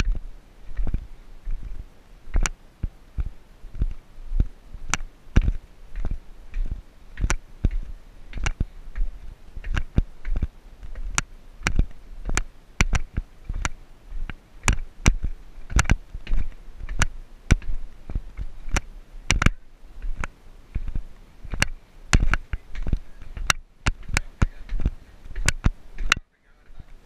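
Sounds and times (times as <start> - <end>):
footsteps on stone stairs: 0.0 - 26.2.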